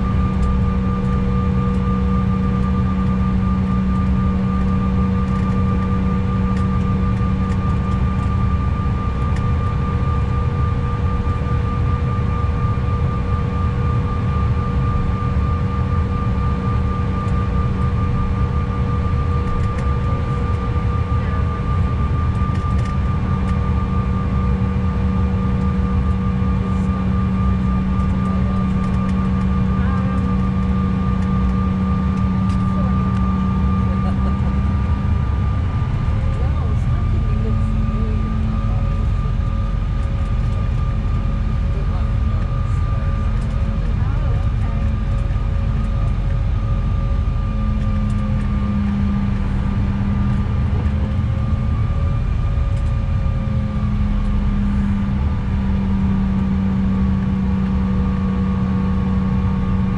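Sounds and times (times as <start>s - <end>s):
jet engines rumbling and whining: 0.0s - 59.9s.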